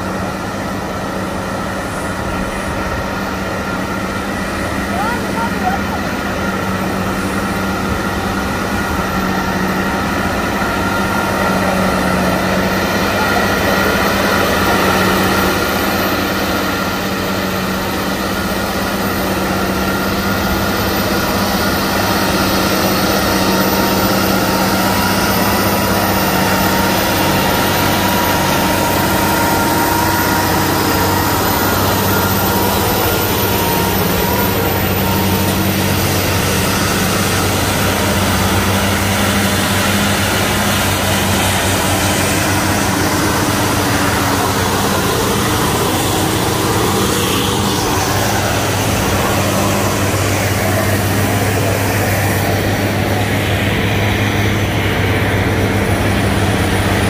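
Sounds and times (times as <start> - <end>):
heavy truck engine under load: 0.0 - 57.0.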